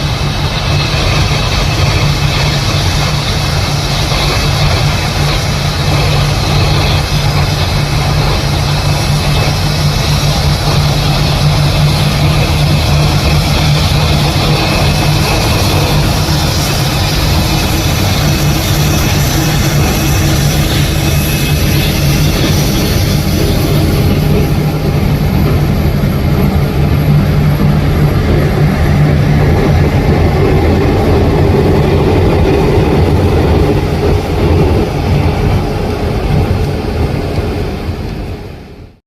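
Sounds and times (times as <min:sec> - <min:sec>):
high whine: 0:00.0 - 0:39.0
jet engines roaring: 0:00.0 - 0:39.0.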